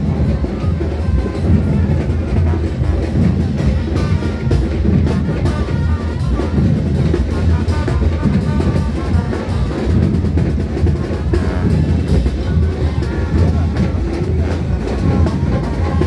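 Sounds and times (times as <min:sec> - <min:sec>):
bass drum and snare hits: 0:00.0 - 0:16.0
drum-heavy parade music: 0:00.0 - 0:16.0.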